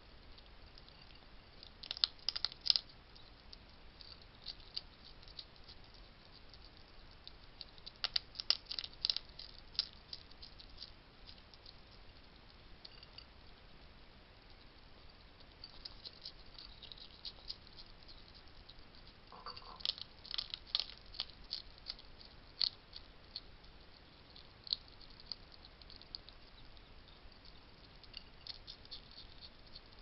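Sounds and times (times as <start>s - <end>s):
hedgehog crunching dry food: 0.2s - 13.2s, 14.4s - 30.0s.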